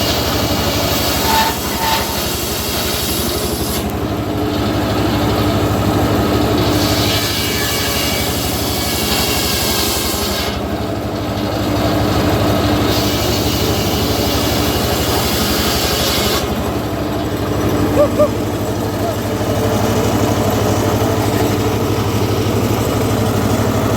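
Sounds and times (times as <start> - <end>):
saw blade cutting wood: 0.0 - 4.0, 6.5 - 10.7, 12.4 - 23.8
engine running steadily: 2.1 - 7.3, 8.0 - 23.9.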